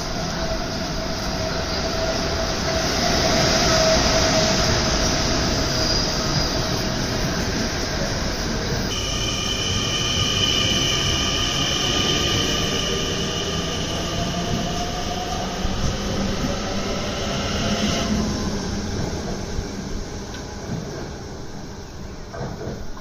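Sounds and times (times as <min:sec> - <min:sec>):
electric train whine: 0:00.0 - 0:22.8
train wheels rumbling: 0:00.0 - 0:23.0.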